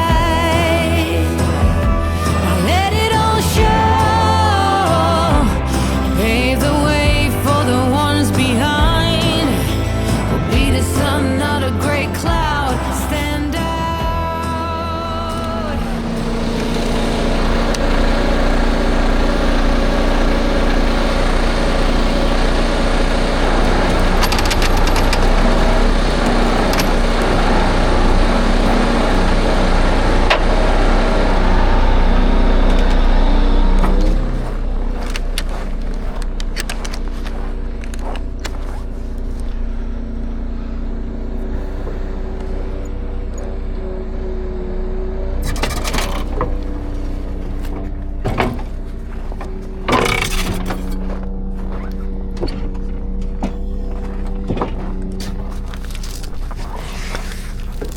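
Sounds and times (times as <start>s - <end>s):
diesel truck engine droning: 0.0s - 57.9s.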